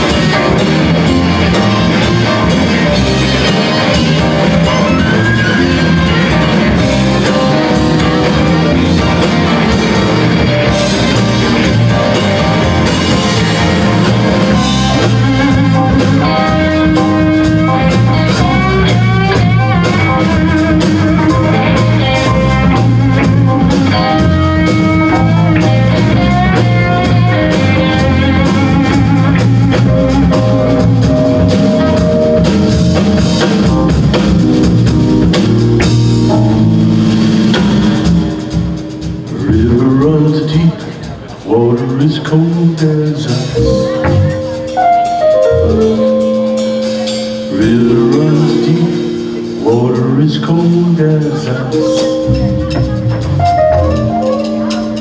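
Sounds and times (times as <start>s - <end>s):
electric guitar lead bent notes: 0.0s - 55.0s
live rock band playing: 0.0s - 55.0s.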